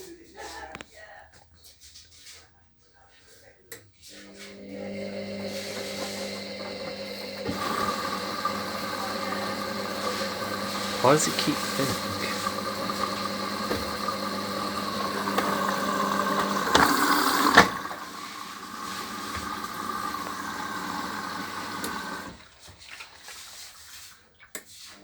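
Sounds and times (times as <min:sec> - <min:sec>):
washer hum: 0:04.1 - 0:25.0
water rushing into washer: 0:04.2 - 0:25.0.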